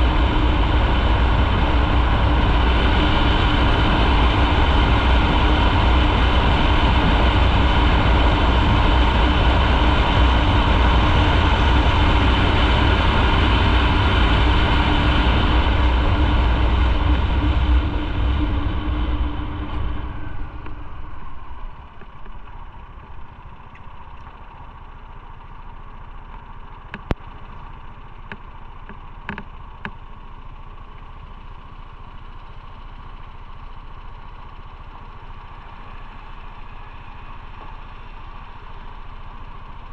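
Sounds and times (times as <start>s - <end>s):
motorcycle engine: 0.0s - 39.9s
motorcycle idling: 0.0s - 39.9s
road and wind noise: 0.0s - 39.9s.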